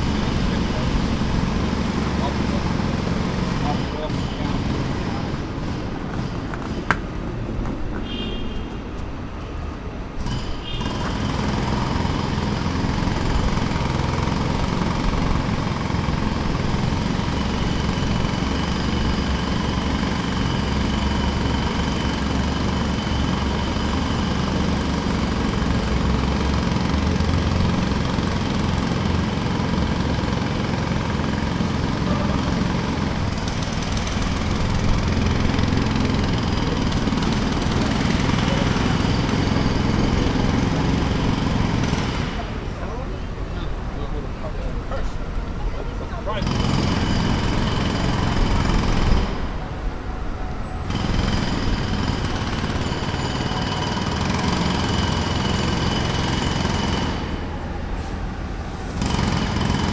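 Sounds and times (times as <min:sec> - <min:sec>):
jackhammer rattling: 0:00.0 - 0:07.3, 0:10.1 - 0:43.5, 0:46.3 - 0:49.8, 0:50.9 - 0:57.8, 0:58.9 - 0:59.9.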